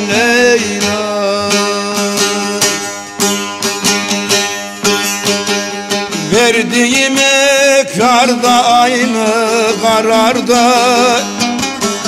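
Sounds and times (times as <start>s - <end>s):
held accompaniment: 0.0s - 12.0s
plucked string instrument: 0.0s - 12.0s.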